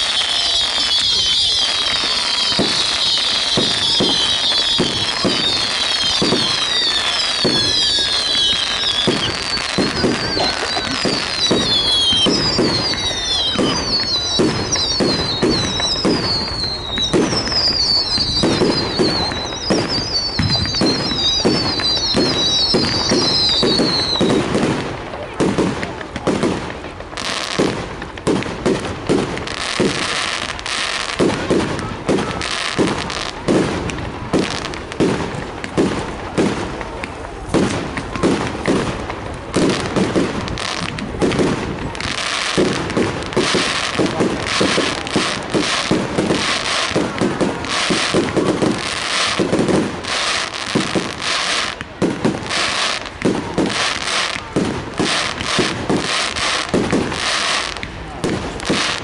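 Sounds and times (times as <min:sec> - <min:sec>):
fireworks bangs: 0:00.0 - 0:59.0
fireworks crackling: 0:00.0 - 0:59.0
fireworks whistling: 0:00.0 - 0:59.0.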